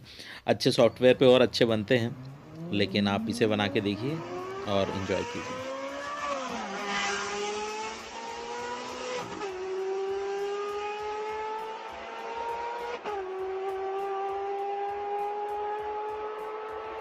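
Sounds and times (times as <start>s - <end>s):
race car engine accelerating: 1.3s - 17.0s.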